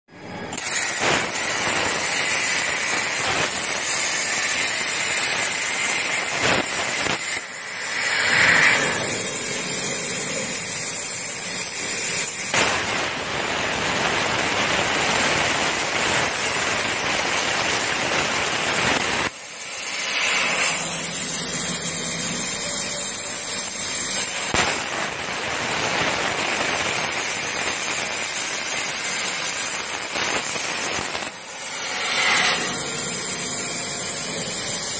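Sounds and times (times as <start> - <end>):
plasma cutter hissing: 0.4 - 34.9.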